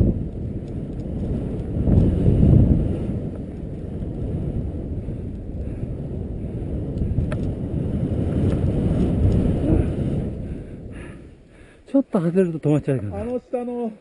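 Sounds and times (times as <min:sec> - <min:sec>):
skis rumbling through snow: 0:00.0 - 0:13.8
wind buffeting microphone: 0:00.0 - 0:13.9.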